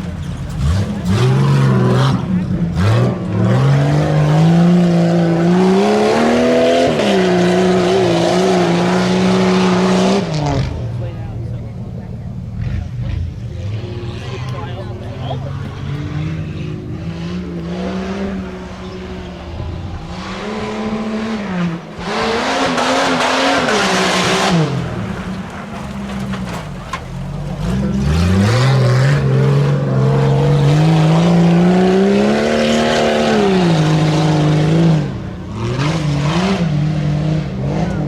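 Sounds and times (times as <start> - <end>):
truck engine revving hard: 0.0 - 38.0.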